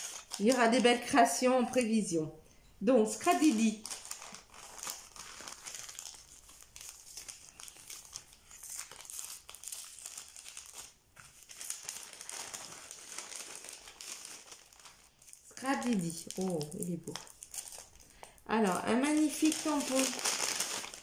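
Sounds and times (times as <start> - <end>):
paper envelope crinkling: 0.0 - 1.1, 3.2 - 21.0.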